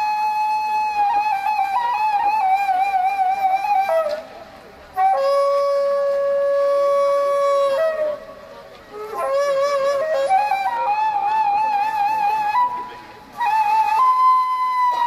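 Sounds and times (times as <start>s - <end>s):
solo flute melody with vibrato: 0.0s - 15.0s.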